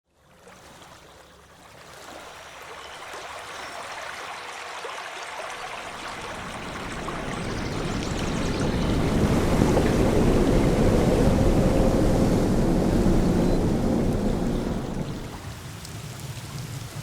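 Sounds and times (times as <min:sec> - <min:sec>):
stream water rushing: 0:00.3 - 0:17.0.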